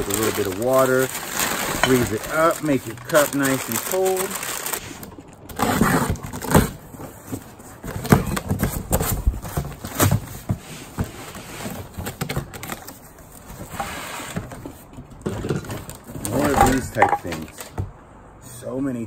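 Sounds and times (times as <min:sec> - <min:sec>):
cardboard flaps scraping and rustling: 0:00.0 - 0:17.8.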